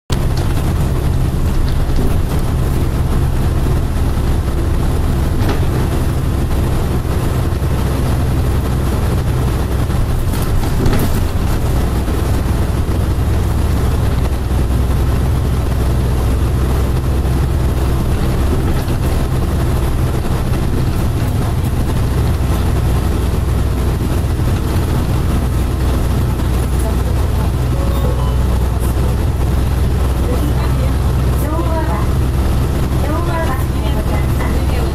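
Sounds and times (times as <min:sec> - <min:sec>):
tram rumbling on track: 0:00.0 - 0:34.9.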